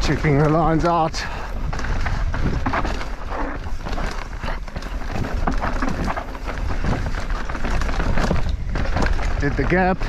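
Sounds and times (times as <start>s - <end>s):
bike rattling: 0.0s - 10.0s
bike tyres crunching over rocks: 0.0s - 10.0s
wind rumble on microphone: 0.0s - 10.0s.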